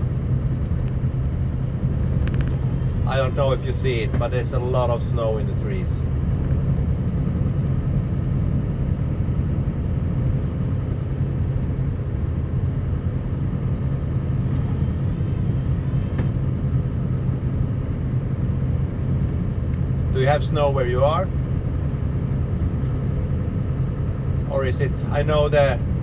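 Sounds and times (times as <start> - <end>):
diesel truck engine droning: 0.0 - 26.0.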